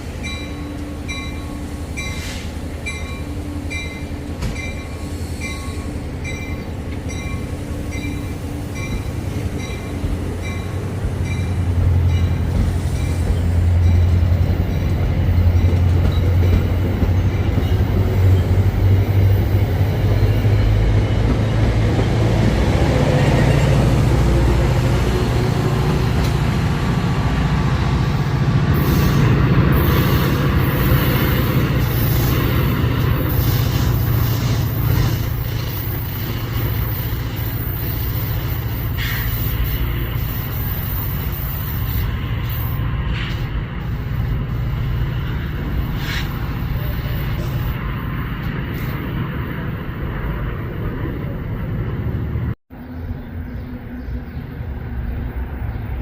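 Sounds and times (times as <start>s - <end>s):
train hissing and screeching: 0.0s - 49.5s
train rumble: 0.0s - 56.0s.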